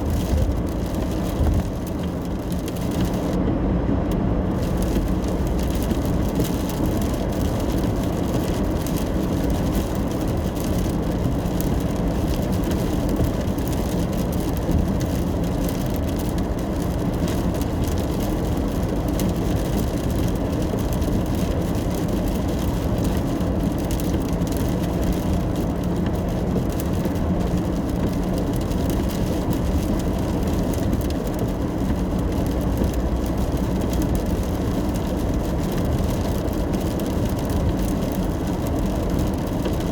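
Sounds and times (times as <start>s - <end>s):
car engine and tyre rumble: 0.0s - 39.9s
wet road and rain hiss: 0.0s - 39.9s.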